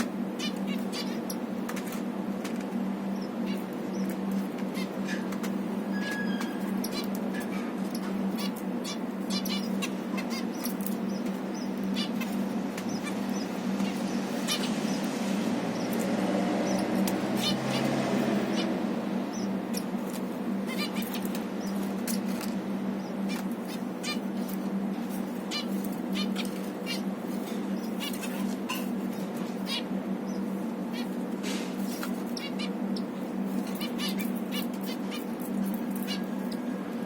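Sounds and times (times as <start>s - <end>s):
finches chirping: 0.0s - 2.0s, 2.6s - 37.0s
steady low hum: 0.0s - 37.0s.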